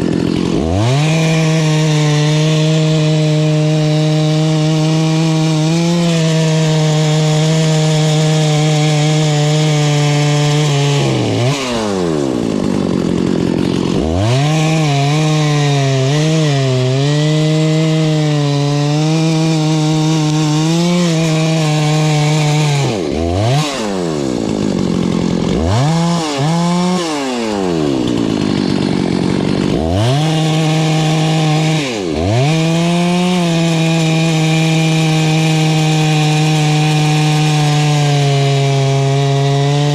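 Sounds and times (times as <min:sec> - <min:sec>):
chainsaw running at high revs: 0:00.0 - 0:39.9.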